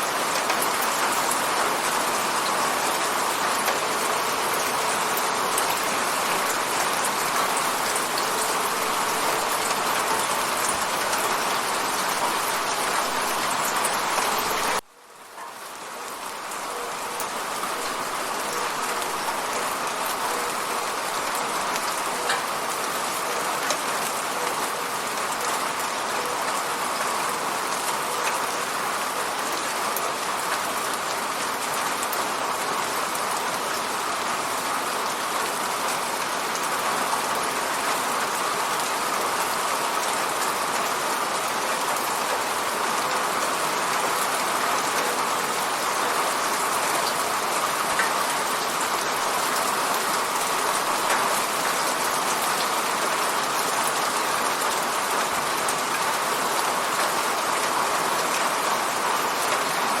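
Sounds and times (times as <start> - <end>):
rain on a window: 0.0 - 60.0.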